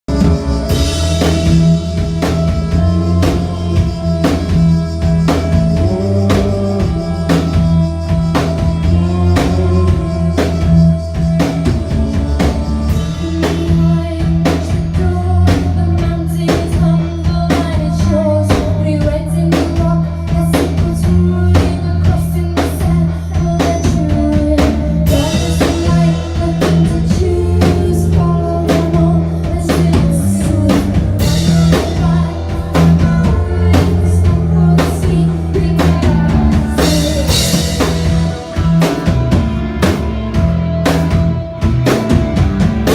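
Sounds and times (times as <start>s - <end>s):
drum kit beating: 0.0s - 42.9s
live rock band playing: 0.0s - 42.9s.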